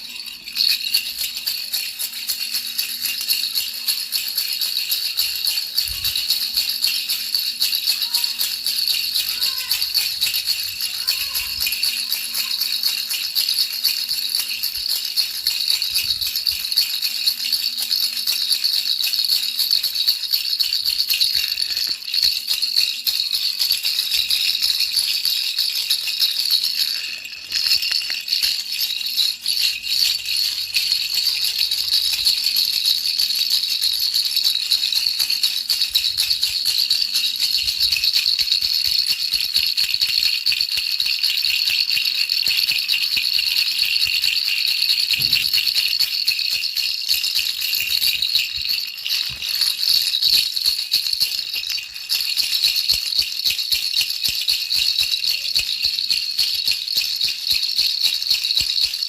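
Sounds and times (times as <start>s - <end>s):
baby's rattle shaken: 0.0s - 59.0s.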